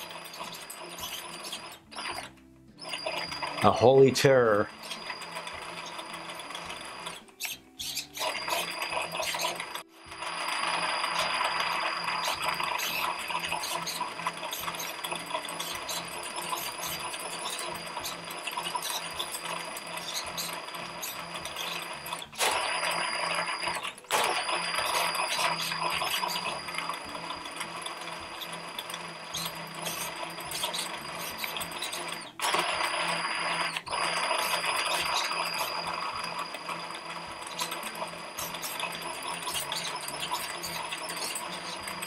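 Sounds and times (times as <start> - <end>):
electric motor whirring whine: 0.0 - 42.0
steady high tone: 8.1 - 42.0.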